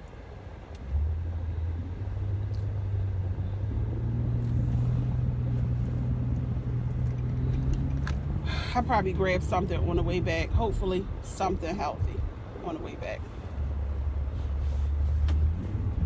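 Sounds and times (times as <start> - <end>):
car engine accelerating: 0.8 - 11.2, 13.6 - 16.0.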